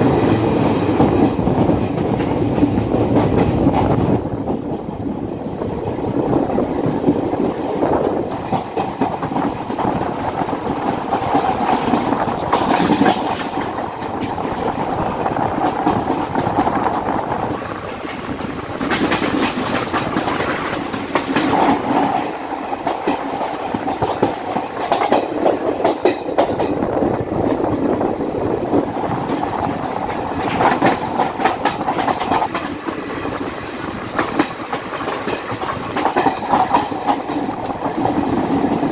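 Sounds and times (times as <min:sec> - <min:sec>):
train wheels rumbling on rail: 0:00.0 - 0:38.9
wheels clacking over rail joints: 0:06.7 - 0:38.9.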